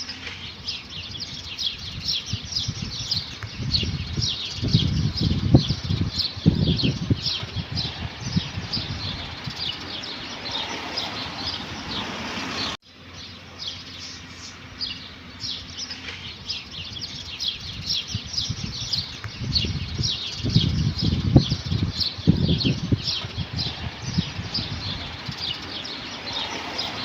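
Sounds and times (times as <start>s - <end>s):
low fluttering noise: 0.0s - 12.7s, 15.8s - 27.0s
birds chirping: 0.0s - 27.0s.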